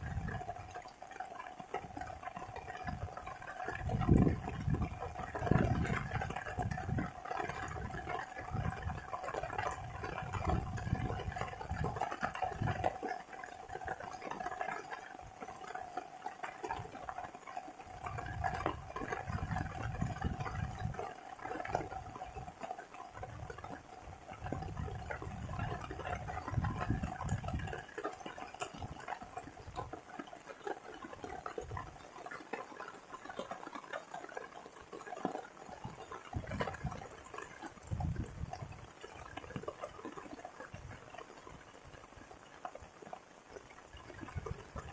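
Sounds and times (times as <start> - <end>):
rain and water: 0.0 - 44.9
small ticks: 0.0 - 44.9.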